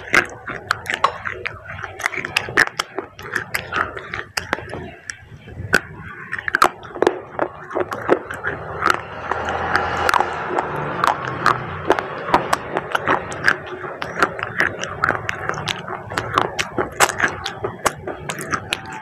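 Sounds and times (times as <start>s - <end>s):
background noise: 0.0s - 19.0s
clay pieces crunching: 0.0s - 19.0s.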